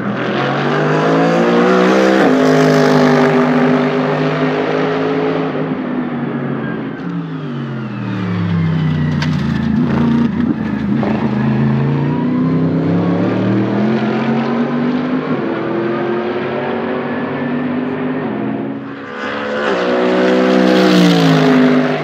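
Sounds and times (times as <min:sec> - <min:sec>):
race car engine: 0:00.0 - 0:22.0.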